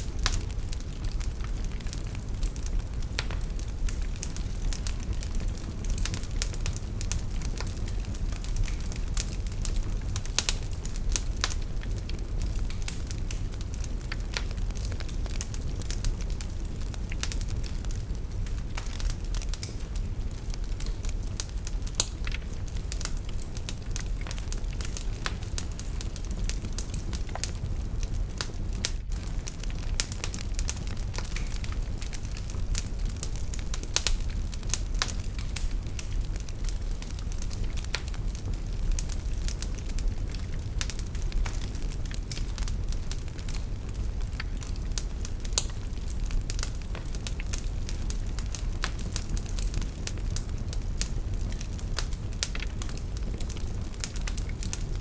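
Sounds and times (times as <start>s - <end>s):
fire crackling and popping: 0.0s - 55.0s
low rumble of flame: 0.0s - 55.0s.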